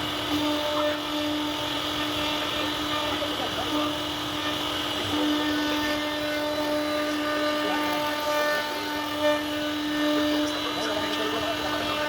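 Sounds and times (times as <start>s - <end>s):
router spindle carving wood: 0.0s - 12.0s.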